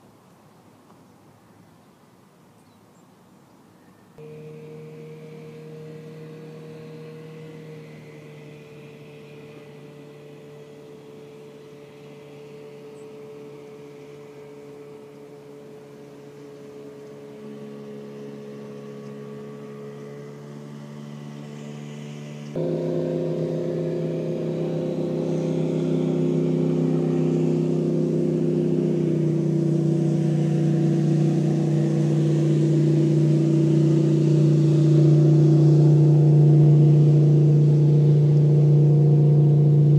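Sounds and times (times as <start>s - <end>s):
motorboat engine running: 4.2s - 39.9s.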